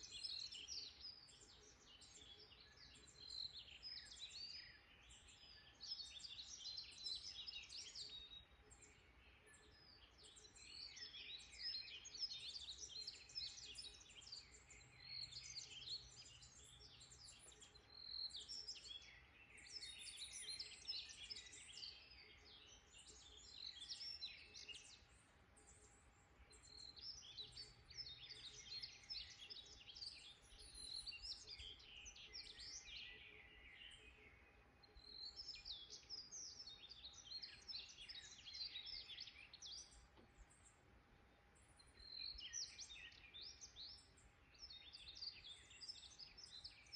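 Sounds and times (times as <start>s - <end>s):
songbirds chirping and trilling: 0.0s - 46.9s.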